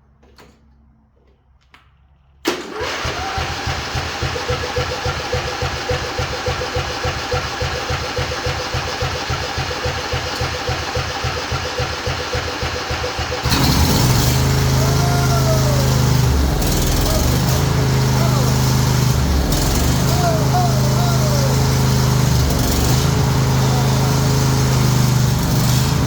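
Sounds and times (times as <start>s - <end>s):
lawn tractor engine cranking: 2.4s - 26.0s
starter motor whine: 2.5s - 26.0s.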